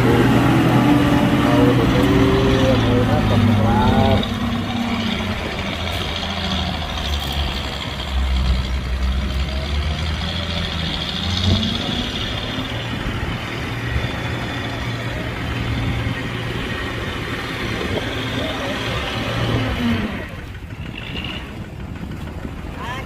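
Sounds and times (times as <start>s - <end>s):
heavy machinery diesel engine running: 0.0s - 23.0s.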